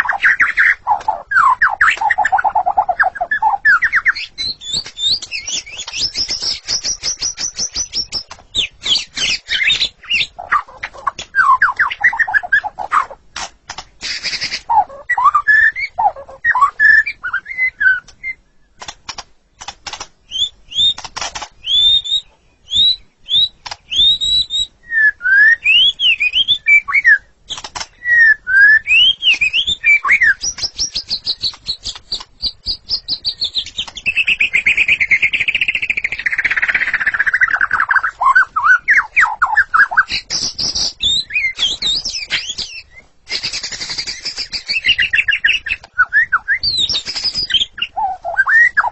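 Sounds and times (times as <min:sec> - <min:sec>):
bird singing whistled song: 0:00.0 - 0:13.2, 0:14.0 - 0:18.9, 0:20.2 - 0:48.9
sharp clicking bird notes: 0:00.0 - 0:24.4, 0:25.6 - 0:48.9.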